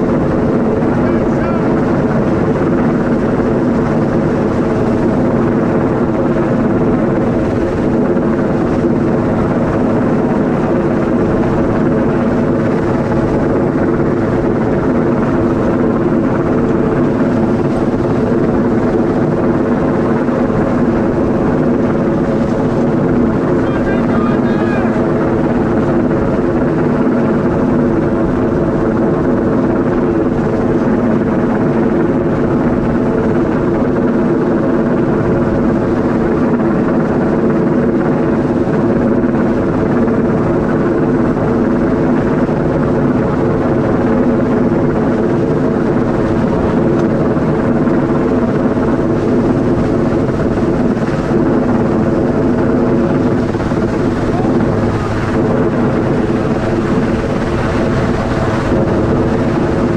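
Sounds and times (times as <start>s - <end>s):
helicopter hovering overhead: 0.0s - 59.9s.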